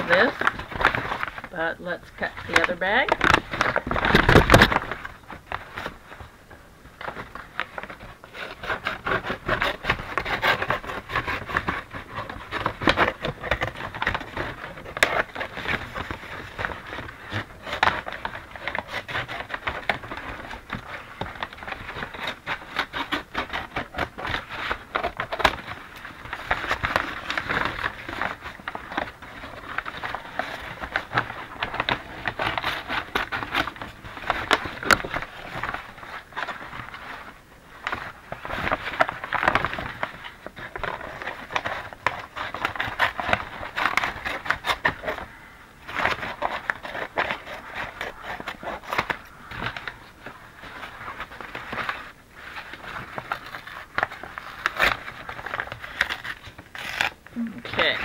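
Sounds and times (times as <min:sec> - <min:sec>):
paper bag crinkling: 0:00.0 - 0:06.4, 0:07.0 - 0:58.0.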